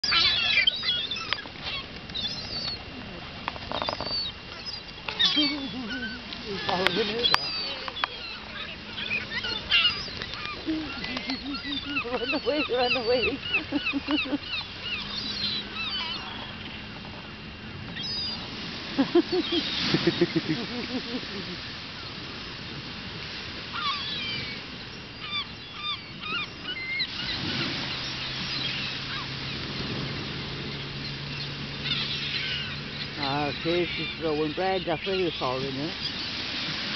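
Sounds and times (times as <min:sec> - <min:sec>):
gulls calling: 0:00.0 - 0:36.9.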